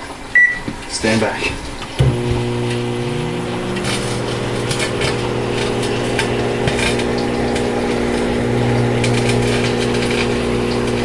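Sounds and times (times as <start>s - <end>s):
metal arcing crackles and snaps: 1.7s - 11.0s
microwave oven humming: 2.0s - 11.0s.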